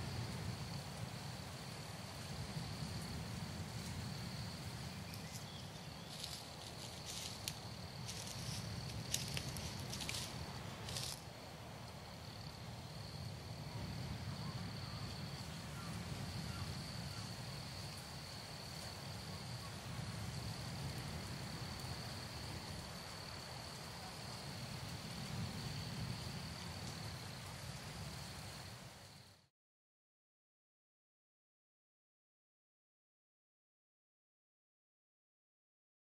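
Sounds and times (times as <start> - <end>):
crickets trilling: 0.0 - 29.4.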